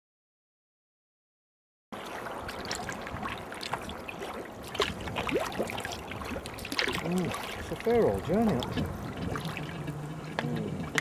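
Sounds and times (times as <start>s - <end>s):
paddle blades splashing water: 2.0s - 11.0s
water dripping off paddle: 2.0s - 11.0s.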